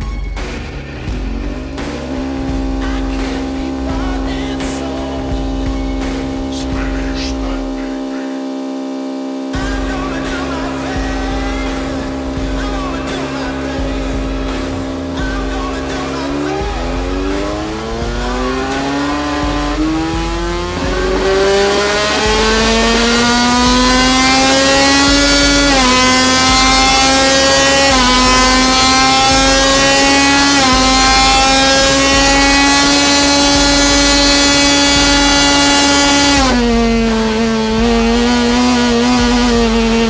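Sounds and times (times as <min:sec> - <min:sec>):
race motorcycle engine revving: 0:00.0 - 0:40.0.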